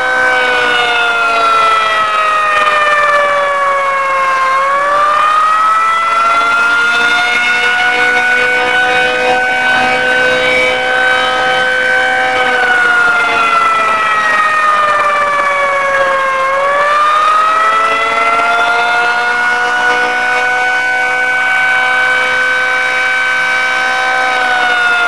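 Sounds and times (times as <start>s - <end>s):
warning siren wailing: 0.0s - 25.0s.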